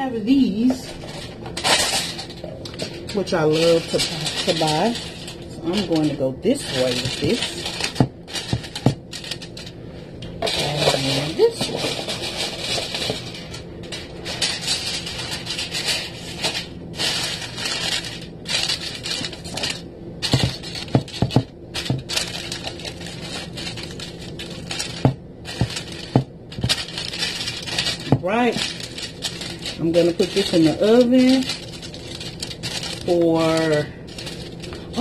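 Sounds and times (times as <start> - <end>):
aluminium foil crinkling: 0.6 - 35.0.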